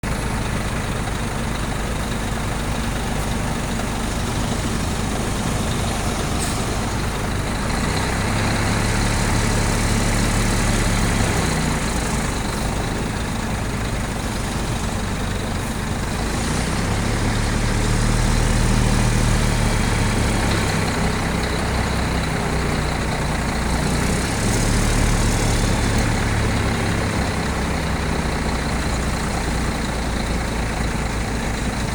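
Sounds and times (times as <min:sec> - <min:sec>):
heavy diesel engine running: 0:00.0 - 0:31.9.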